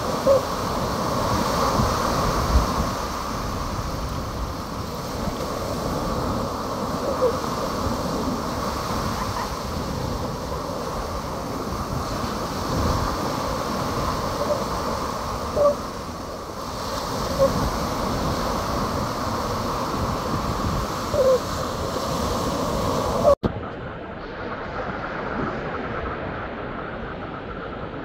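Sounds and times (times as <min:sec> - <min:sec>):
small waves washing onto beach: 0:00.0 - 0:28.0
wind rumbling on microphone: 0:00.0 - 0:28.0.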